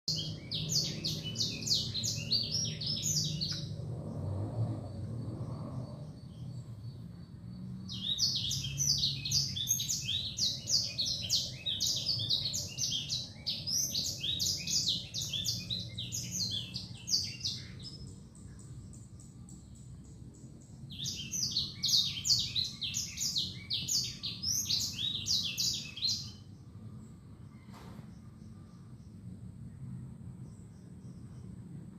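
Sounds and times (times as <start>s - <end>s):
songbird chattering song: 0.1s - 31.9s.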